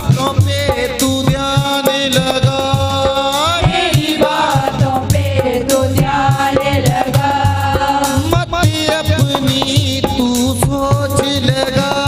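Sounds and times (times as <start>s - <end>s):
worship song music: 0.0s - 12.0s.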